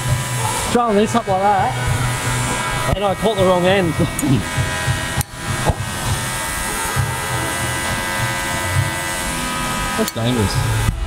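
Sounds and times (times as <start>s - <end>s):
background music with low beat: 0.0s - 11.0s
steady electric buzz: 0.0s - 11.0s.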